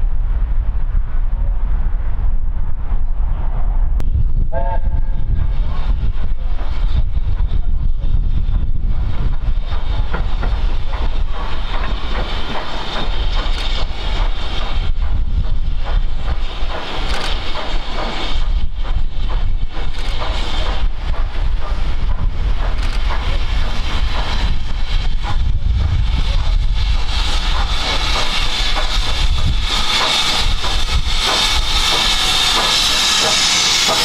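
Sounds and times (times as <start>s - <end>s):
wind rumble on microphone: 0.0s - 32.2s
steam hissing: 4.5s - 34.0s
train wheels clicking over rail joints: 5.2s - 34.0s.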